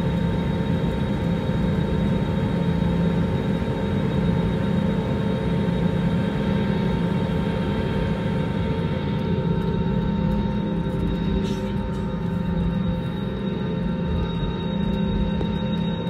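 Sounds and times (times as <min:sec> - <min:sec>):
jet engines humming and whining: 0:00.0 - 0:16.0.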